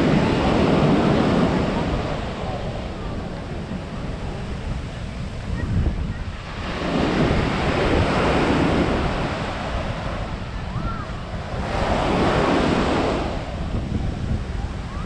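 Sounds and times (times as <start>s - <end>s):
sea waves washing onto beach: 0.0s - 15.0s
wind rumbling on microphone: 0.0s - 15.0s.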